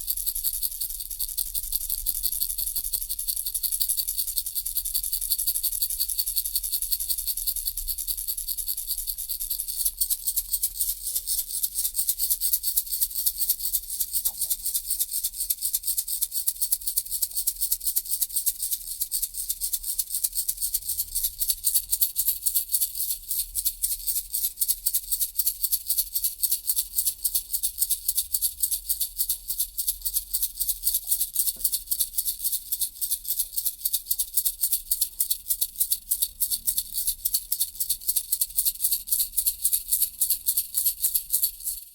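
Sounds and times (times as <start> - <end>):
baby rattle shaken: 0.0 - 41.9.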